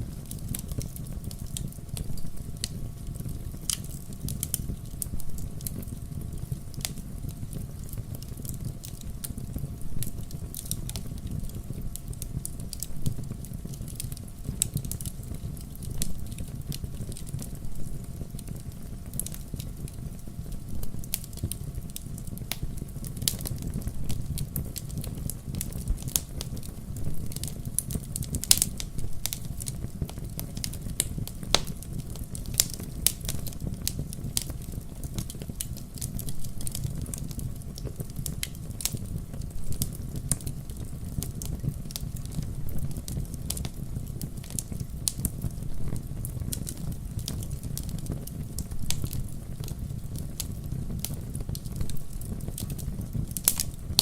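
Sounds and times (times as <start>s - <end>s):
fireplace fire crackling: 0.0s - 54.0s
low fire rumble: 0.0s - 54.0s.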